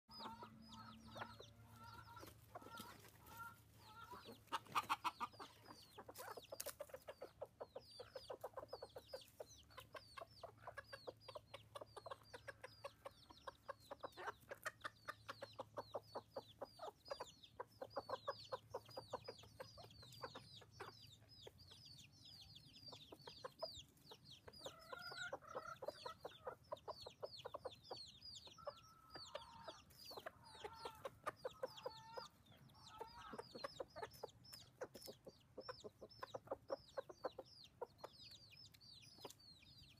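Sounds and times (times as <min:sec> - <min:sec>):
chicks peeping: 0:00.1 - 0:39.9
hens clucking softly: 0:00.1 - 0:39.9.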